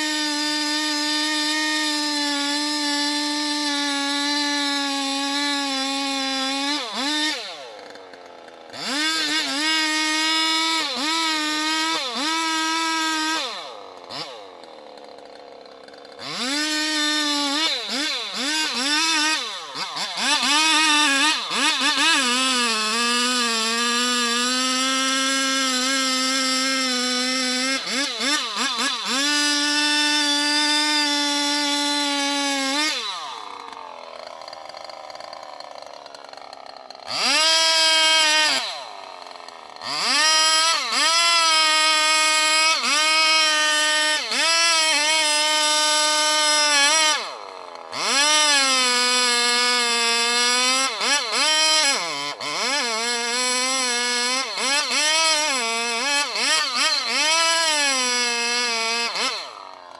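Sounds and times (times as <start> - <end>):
chainsaw cutting tree trunk: 0.0 - 59.9.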